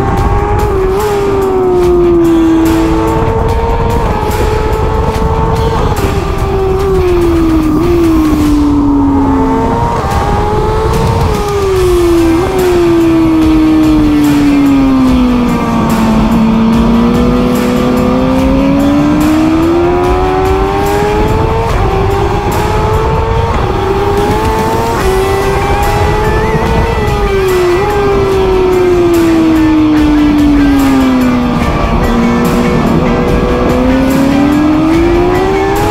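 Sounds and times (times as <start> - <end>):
superbike engine revving: 0.0 - 35.9.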